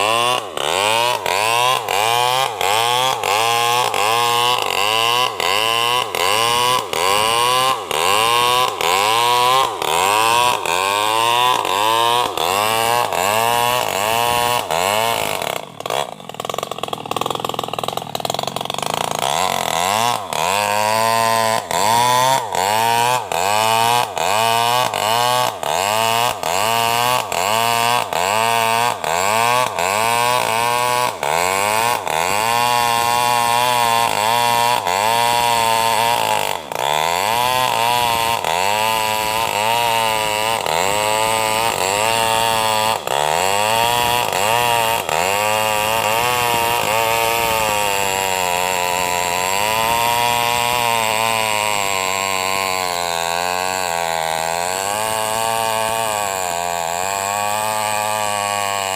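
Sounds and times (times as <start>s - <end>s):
chainsaw cutting log: 0.0s - 58.9s.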